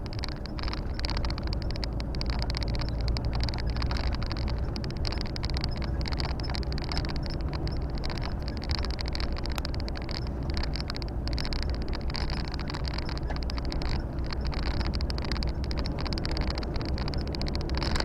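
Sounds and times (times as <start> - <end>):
road and tyre noise: 0.0 - 18.0
truck diesel engine running: 0.0 - 18.0.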